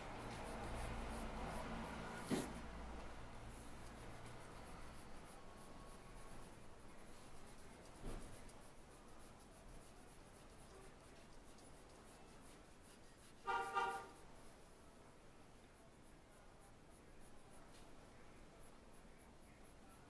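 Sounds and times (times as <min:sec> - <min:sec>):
pencil scratching on paper: 0:00.0 - 0:14.7, 0:15.5 - 0:20.0.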